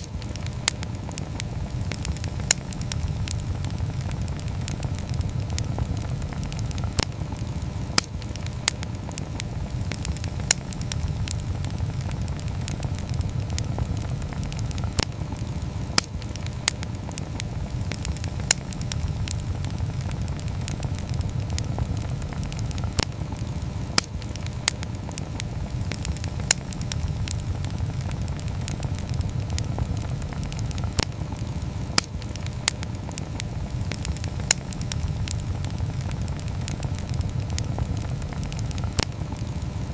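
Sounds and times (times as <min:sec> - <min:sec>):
burning wood crackling and popping: 0:00.0 - 0:39.9
campfire flame rushing: 0:00.0 - 0:39.9.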